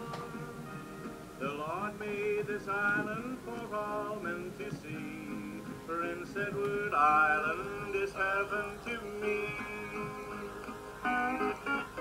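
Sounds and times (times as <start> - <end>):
guitar plucked and strummed: 0.0 - 12.0
man singing: 1.4 - 11.4.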